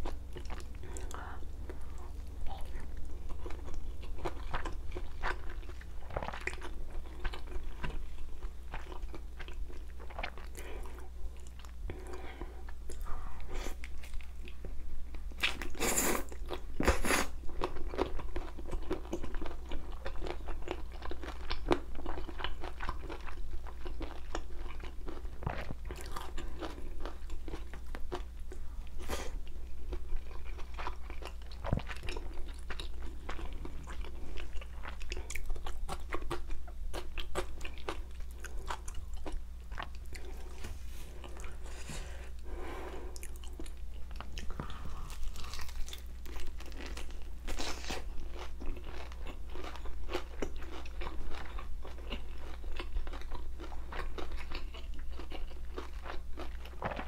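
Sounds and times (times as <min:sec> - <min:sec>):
chewing and crunching: 0:00.0 - 0:42.1, 0:43.1 - 0:57.0.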